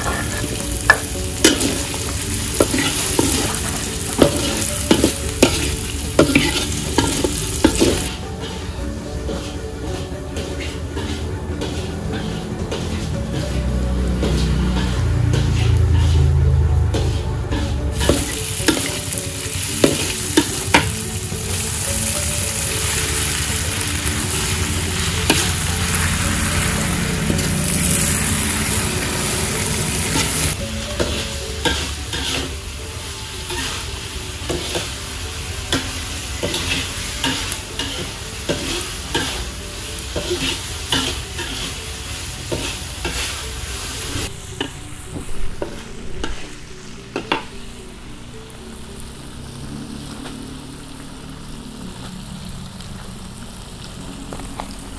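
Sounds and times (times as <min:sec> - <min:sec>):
metal spatula scraping a wok: 0:00.0 - 0:47.6
food sizzling in a wok: 0:00.0 - 0:54.9.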